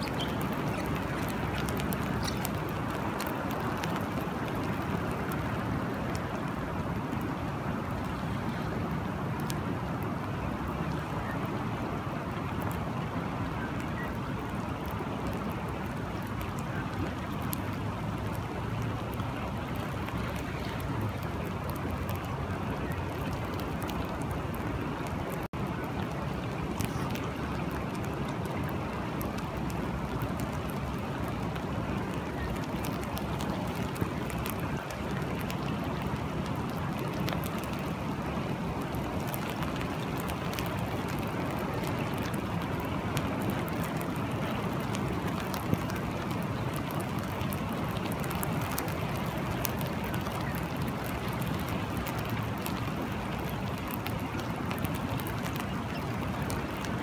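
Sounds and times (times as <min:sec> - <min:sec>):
raindrops ticking: 0:00.0 - 0:57.0
steady rain: 0:00.0 - 0:57.0.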